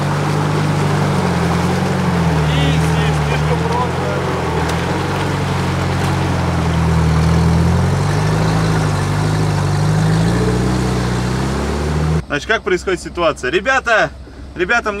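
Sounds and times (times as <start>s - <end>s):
van engine running at low revs: 0.0s - 15.0s.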